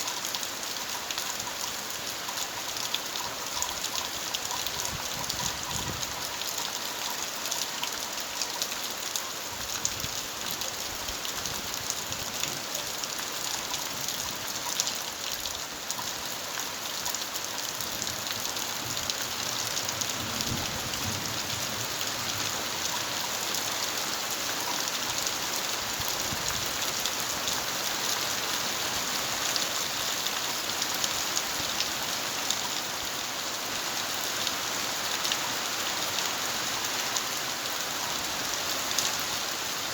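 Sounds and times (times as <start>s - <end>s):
raindrops pattering on surfaces: 0.0s - 39.9s
steady rain falling: 0.0s - 39.9s.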